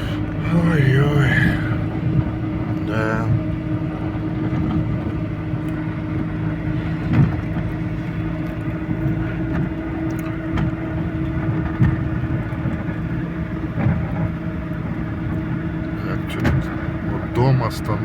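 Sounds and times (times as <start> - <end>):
road noise: 0.0 - 18.0
truck engine hum: 0.0 - 18.0.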